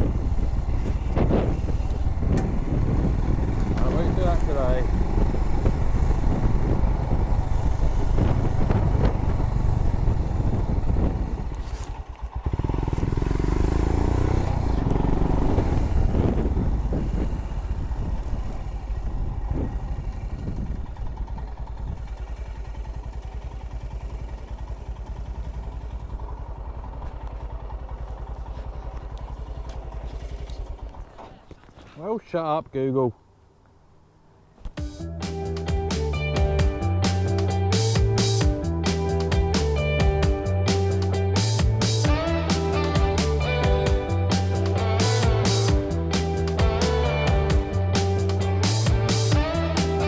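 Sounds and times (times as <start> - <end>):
motorcycle engine running: 0.0 - 31.8, 34.7 - 50.0.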